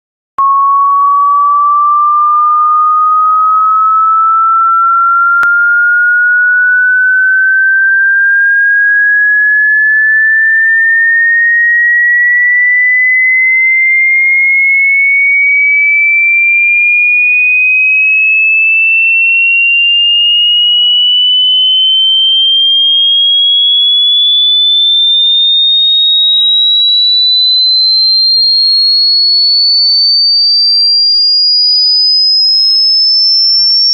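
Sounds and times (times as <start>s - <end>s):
high sine-wave tone rising: 0.4s - 33.9s.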